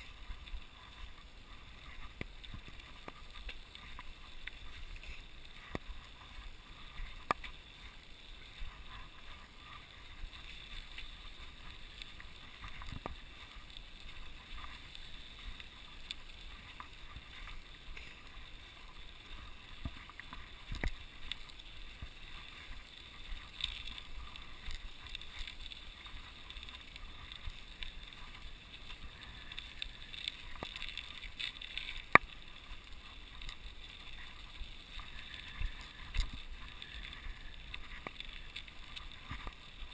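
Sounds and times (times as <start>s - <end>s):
tyres hissing on snow: 0.0s - 39.9s
wind: 0.0s - 39.9s.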